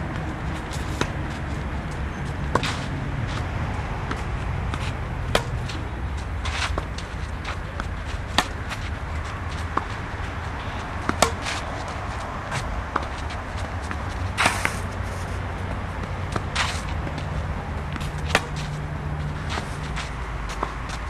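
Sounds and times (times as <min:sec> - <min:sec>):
steady low hum: 0:00.0 - 0:21.0
racket hitting tennis ball: 0:00.1 - 0:21.0
shoes scuffing on clay: 0:00.2 - 0:21.0.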